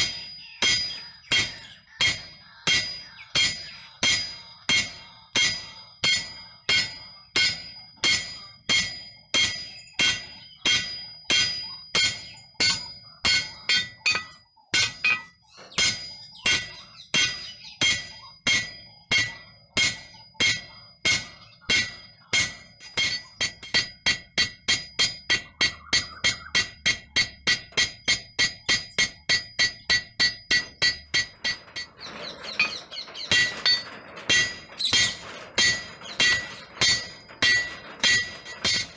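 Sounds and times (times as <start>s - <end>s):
hammer striking metal on anvil: 0.0s - 38.9s.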